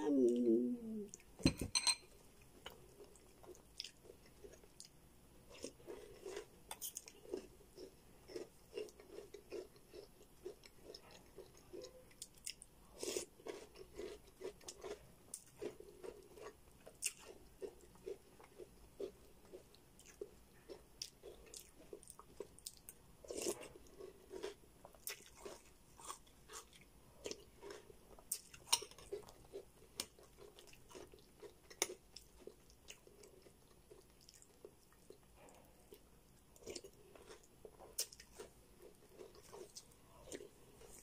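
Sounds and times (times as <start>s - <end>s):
person chewing soft food: 2.3s - 41.0s.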